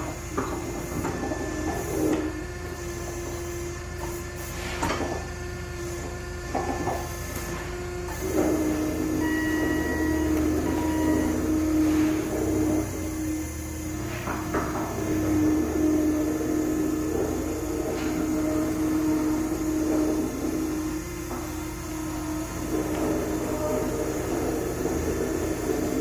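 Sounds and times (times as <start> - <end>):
machinery motor hum and whine: 0.0 - 26.0.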